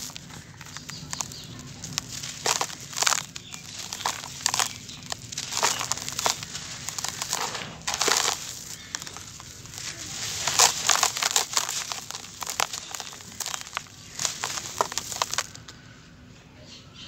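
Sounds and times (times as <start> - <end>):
dust pouring with sifting hiss: 0.0 - 15.5
hands crunching dry dust: 0.0 - 15.8.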